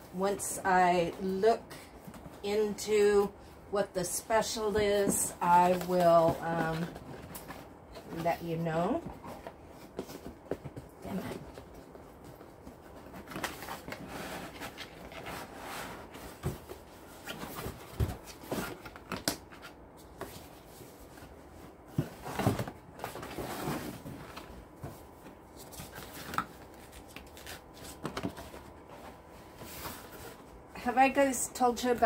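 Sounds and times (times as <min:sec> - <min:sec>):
cardboard packaging rustling: 0:04.4 - 0:30.6.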